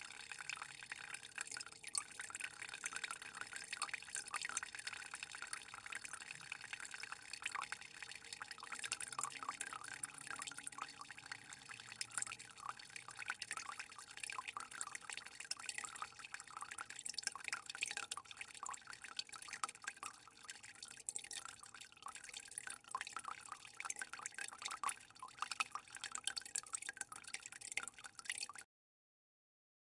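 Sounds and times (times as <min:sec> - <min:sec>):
water trickling and dripping: 0:00.0 - 0:28.7.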